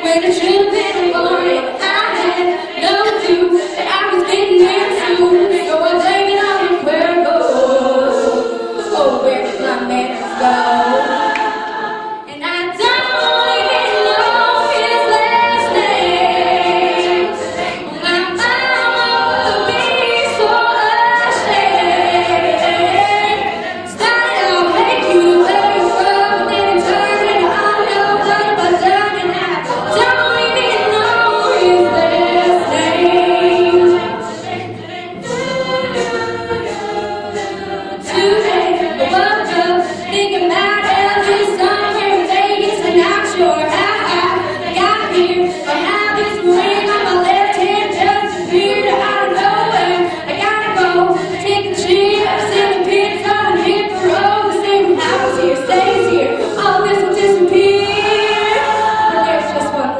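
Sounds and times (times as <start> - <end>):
women singing a cappella: 0.0 - 59.9.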